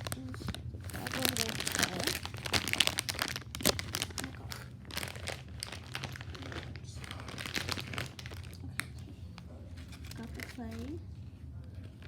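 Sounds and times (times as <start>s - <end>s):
packaging bag crinkling: 0.0s - 9.0s, 9.8s - 11.0s.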